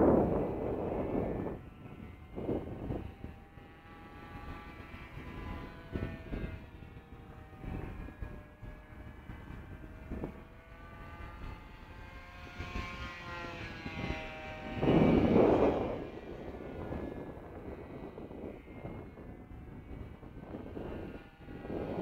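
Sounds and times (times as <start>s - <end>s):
model airplane motor passing: 0.0s - 22.0s.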